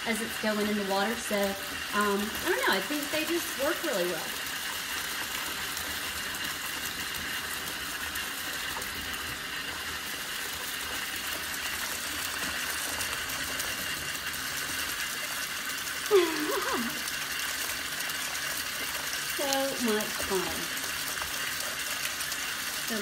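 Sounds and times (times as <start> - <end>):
tap water pouring into bathtub: 0.0 - 23.0.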